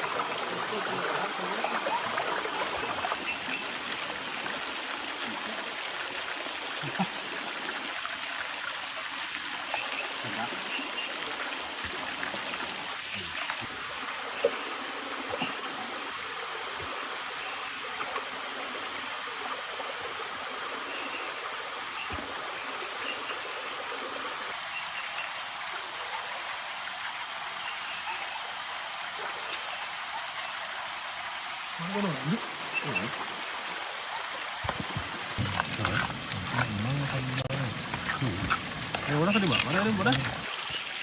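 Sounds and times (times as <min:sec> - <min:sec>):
rushing water hiss: 0:00.0 - 0:41.0.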